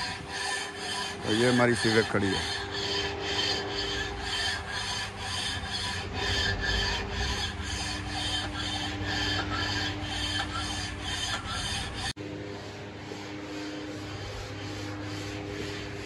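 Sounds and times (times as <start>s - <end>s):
rhythmic rasping strokes on metal: 0.0s - 16.0s.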